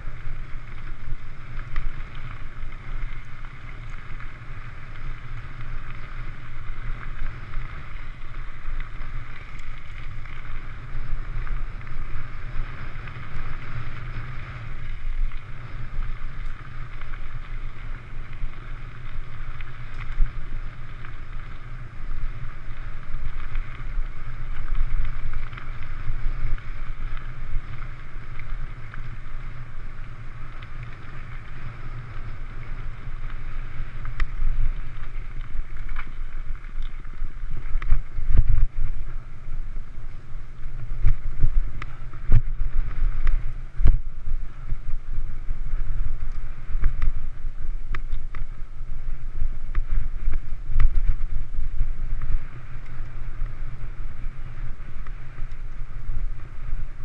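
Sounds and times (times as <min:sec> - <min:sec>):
bike tyres rolling on gravel: 0:00.0 - 0:57.0
wind buffeting microphone: 0:00.0 - 0:57.0.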